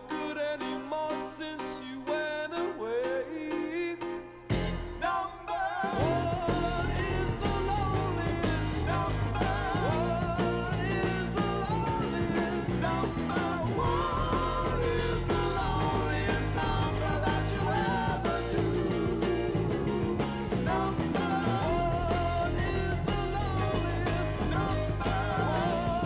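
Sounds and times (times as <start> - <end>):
rock song with singer and band: 0.0 - 26.0.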